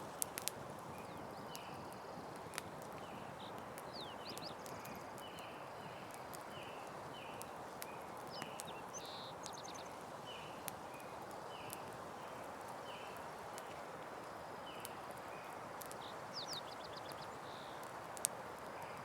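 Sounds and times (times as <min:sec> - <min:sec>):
campfire crackling and popping: 0:00.0 - 0:19.0
birds chirping: 0:00.9 - 0:17.9.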